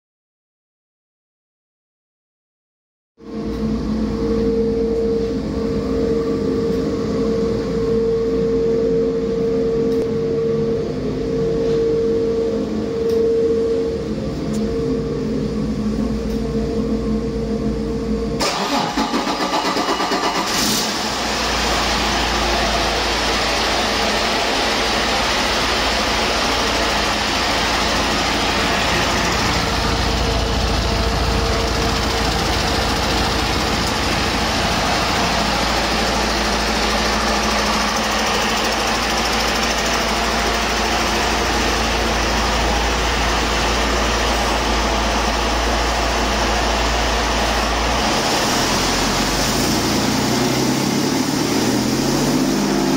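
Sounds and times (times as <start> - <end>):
diesel engine cranking and idling: 9.4 - 52.9.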